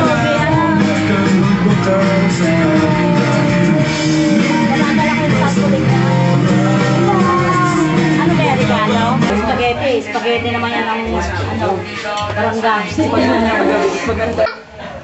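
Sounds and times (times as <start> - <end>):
song with singing and guitar: 0.0 - 14.6.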